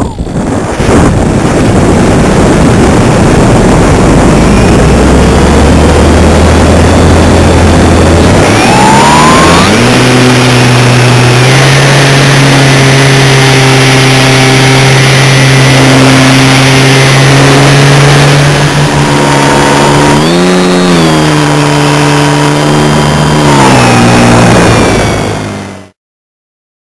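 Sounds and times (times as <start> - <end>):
model plane engine running: 0.0 - 26.0.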